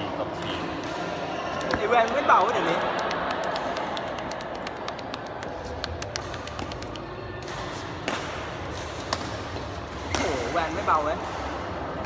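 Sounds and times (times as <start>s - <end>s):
rackets hitting shuttlecocks: 0.3s - 12.0s.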